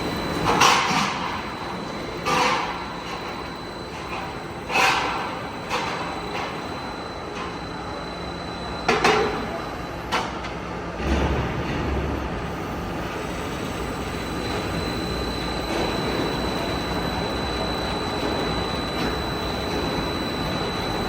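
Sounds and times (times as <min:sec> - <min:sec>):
machine running with high whine: 0:00.0 - 0:21.0.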